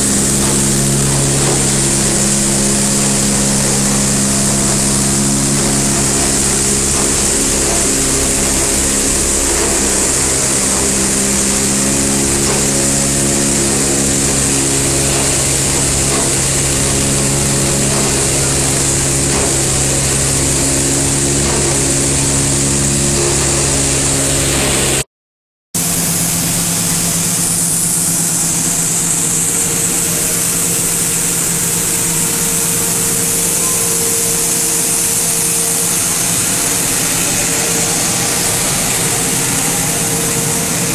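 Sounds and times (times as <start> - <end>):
machinery motor hums and hiss: 0.0 - 25.0, 25.8 - 40.9.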